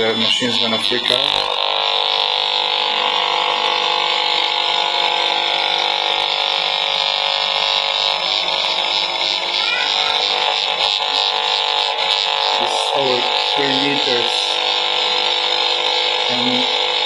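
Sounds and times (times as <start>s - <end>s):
radiation meter electronic buzz: 0.0s - 17.0s.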